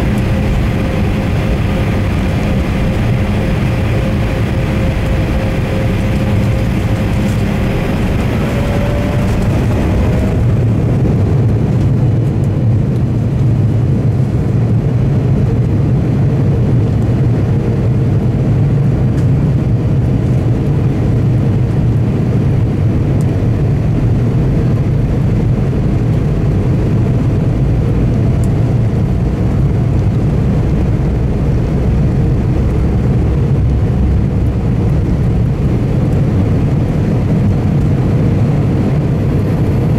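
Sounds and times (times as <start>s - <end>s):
thin engine whine: 0.0s - 14.5s, 17.8s - 39.9s
jet engine cabin rumble: 0.0s - 39.9s.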